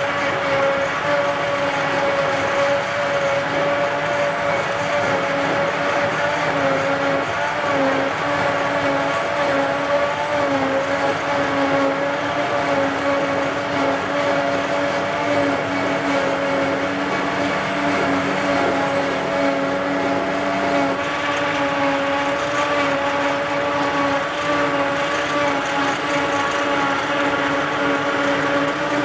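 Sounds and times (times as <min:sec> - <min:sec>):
forage harvester machine drone: 0:00.0 - 0:29.0.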